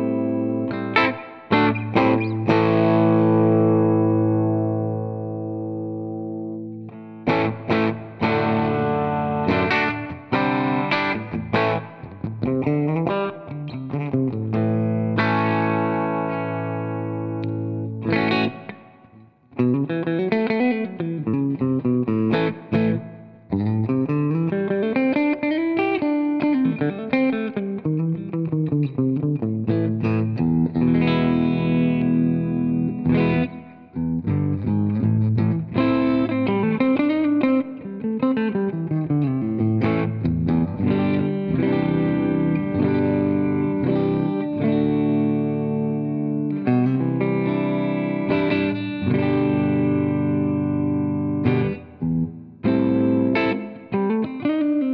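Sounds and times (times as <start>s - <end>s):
electric guitar playing: 0.0s - 54.9s.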